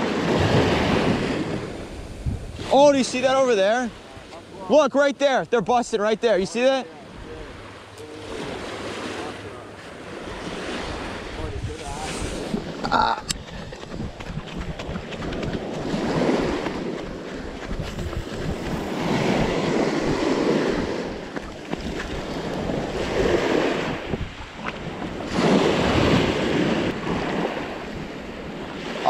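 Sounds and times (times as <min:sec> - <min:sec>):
wind buffeting microphone: 0:00.0 - 0:04.6, 0:10.0 - 0:29.0
small waves on sandy shore: 0:00.0 - 0:29.0.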